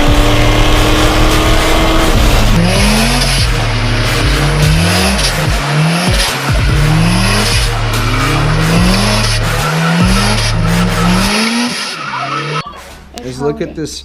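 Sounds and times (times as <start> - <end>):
repeating rising tone: 0.0 - 12.9.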